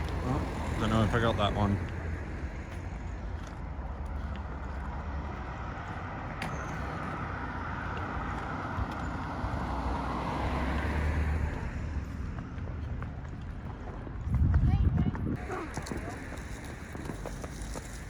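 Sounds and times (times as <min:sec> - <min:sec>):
car passing on road: 0:00.0 - 0:14.4, 0:15.4 - 0:18.0
steady low traffic rumble: 0:00.0 - 0:18.0.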